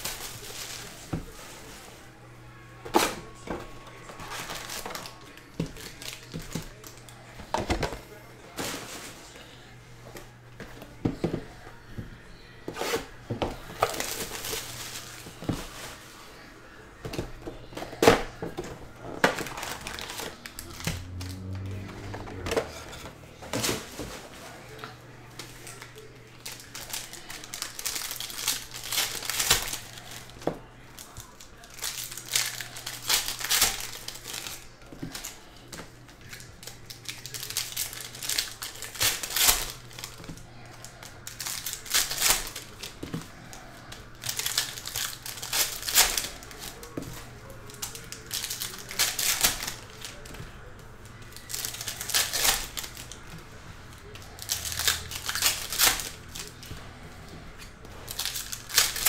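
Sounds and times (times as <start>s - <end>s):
foil wrappers crinkling and tearing: 0.0s - 9.8s, 12.7s - 59.0s.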